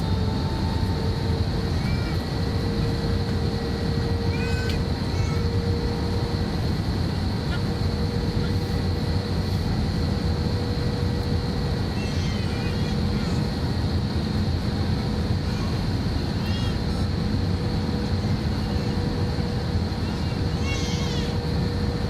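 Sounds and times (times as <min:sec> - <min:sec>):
airliner engines rumbling: 0:00.0 - 0:22.0
high whine: 0:00.0 - 0:22.0.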